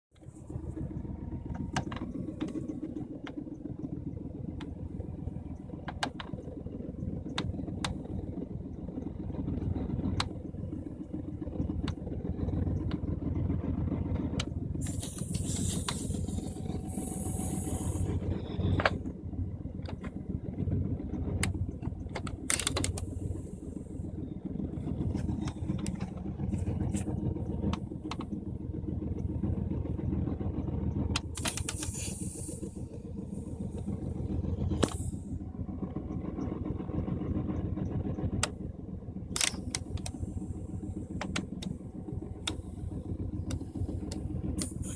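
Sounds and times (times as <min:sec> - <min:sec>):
engine rumbling: 0:00.1 - 0:44.9.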